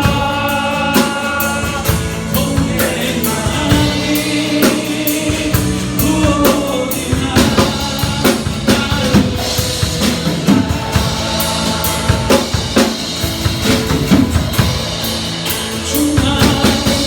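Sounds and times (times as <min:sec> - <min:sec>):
drum kit steady beat: 0:00.0 - 0:17.0
live band playing: 0:00.0 - 0:17.0.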